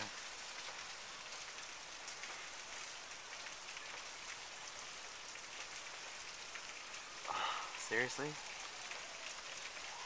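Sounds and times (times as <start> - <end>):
heavy rain hissing: 0.0 - 10.0
raindrop patter: 0.0 - 10.0.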